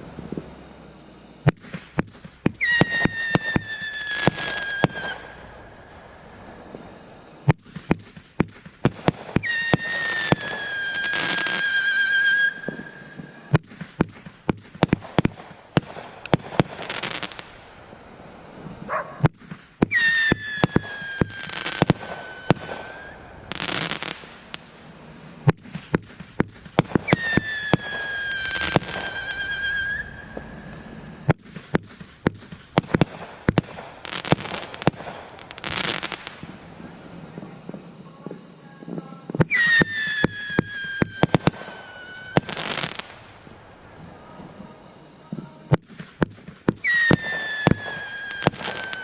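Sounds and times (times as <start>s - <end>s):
firework whistles: 0.0s - 49.0s
fireworks popping and banging: 1.4s - 49.0s.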